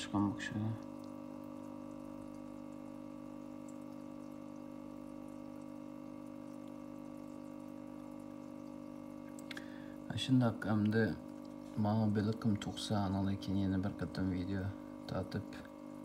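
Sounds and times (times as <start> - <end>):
air bubbles burbling in water: 0.0 - 16.0
air pump humming: 0.0 - 16.0.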